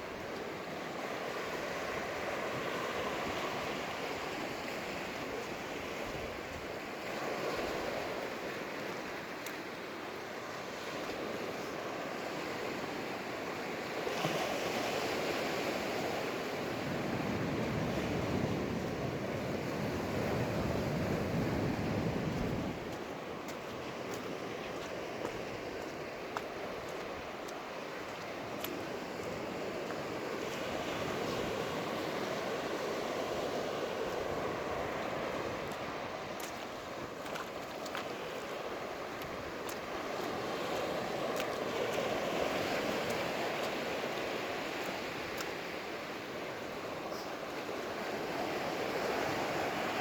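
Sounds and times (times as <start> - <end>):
waves breaking on beach: 0.0 - 50.0.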